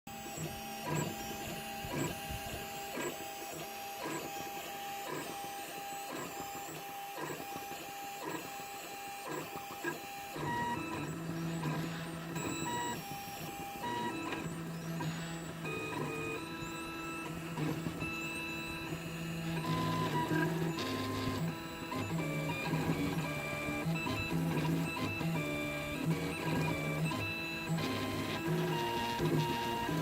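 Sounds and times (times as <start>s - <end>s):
stepper motors whining: 0.1s - 30.0s.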